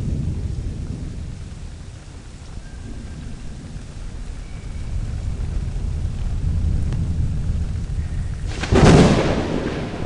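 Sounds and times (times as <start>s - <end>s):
rain: 0.0s - 10.0s
sharp thunderclap: 0.0s - 10.0s
thunder rumbling: 0.0s - 10.0s.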